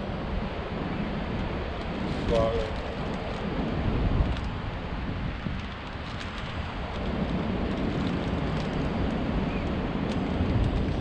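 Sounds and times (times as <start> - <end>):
ocean surf: 0.0 - 11.0
wind on microphone: 0.0 - 11.0.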